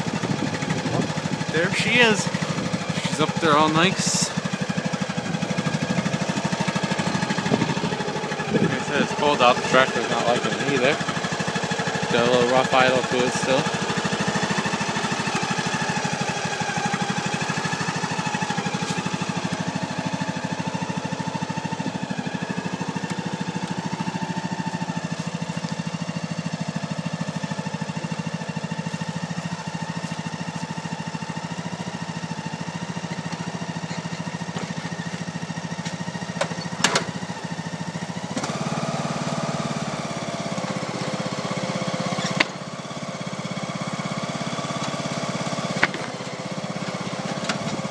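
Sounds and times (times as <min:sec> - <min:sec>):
lawn tractor engine idling: 0:00.0 - 0:47.9.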